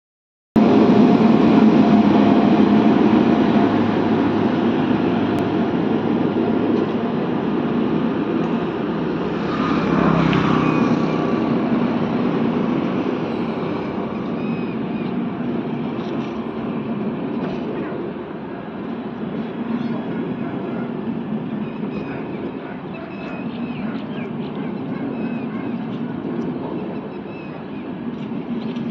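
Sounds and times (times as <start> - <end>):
train wheels rumbling on track: 0.6 - 28.9.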